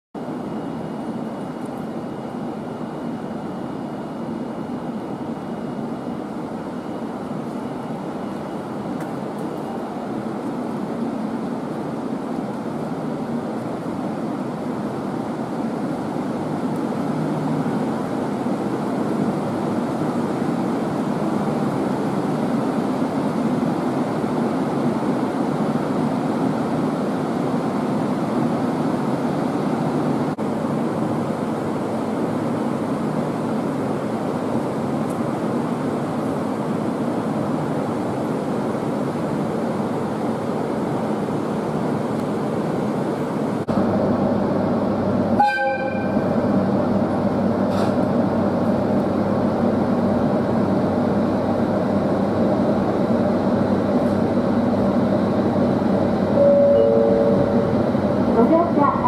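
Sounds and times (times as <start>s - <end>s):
electric train hum and hiss: 0.2s - 59.0s.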